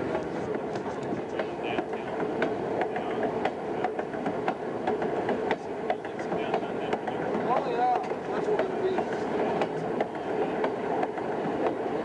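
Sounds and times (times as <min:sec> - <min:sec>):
rumble of train wheels on rails: 0:00.0 - 0:12.0
irregular clicks and clacks: 0:00.1 - 0:11.9.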